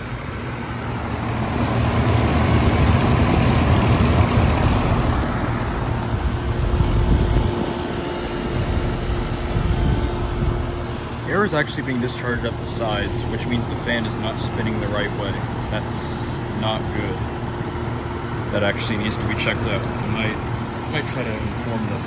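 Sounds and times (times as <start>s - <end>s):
compressor humming: 0.0s - 22.0s
condenser fan rushing: 0.0s - 22.0s
steady tone: 0.0s - 22.0s.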